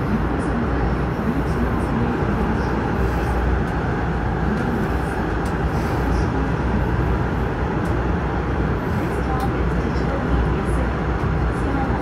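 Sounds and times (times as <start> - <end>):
train rumbling through tunnel: 0.0 - 12.0.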